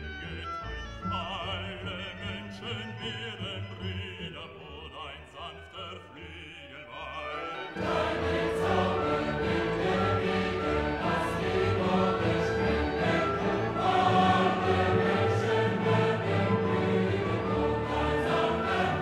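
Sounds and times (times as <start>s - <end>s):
classical music: 0.0s - 19.0s.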